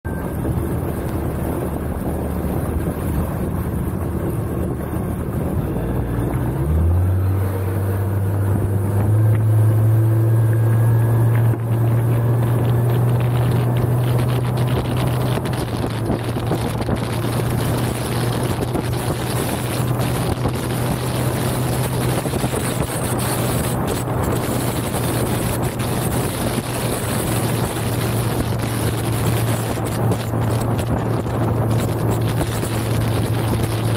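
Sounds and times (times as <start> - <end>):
outboard motor revving: 0.1 - 33.9
wind buffeting microphone: 0.1 - 33.9.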